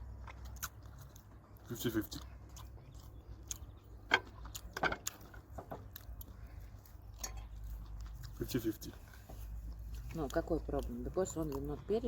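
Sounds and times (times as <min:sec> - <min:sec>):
person chewing: 0:00.0 - 0:11.7.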